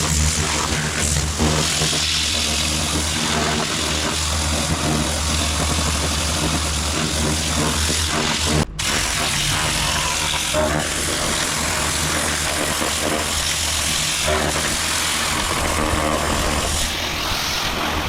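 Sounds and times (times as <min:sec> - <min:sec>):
pressure washer spraying: 0:00.0 - 0:18.0.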